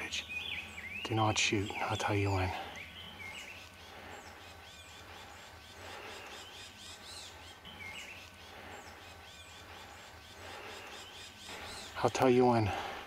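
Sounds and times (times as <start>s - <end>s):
faint outdoor hiss: 0.0s - 13.0s
songbirds chirping: 0.0s - 13.0s.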